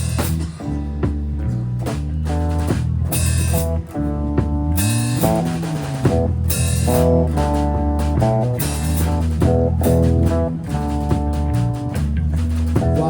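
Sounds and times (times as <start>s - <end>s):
bass guitar: 0.0s - 13.0s
drum kit with cymbal crashes: 0.0s - 13.0s
guitar: 0.0s - 13.0s.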